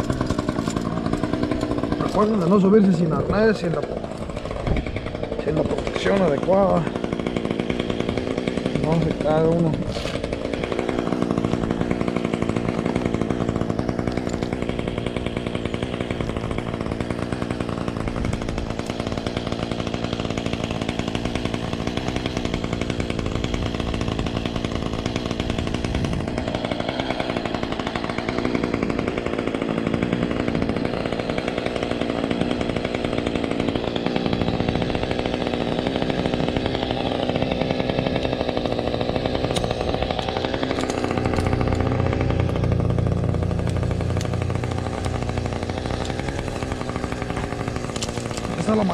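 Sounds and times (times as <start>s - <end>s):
chainsaw running steadily: 0.0s - 48.9s.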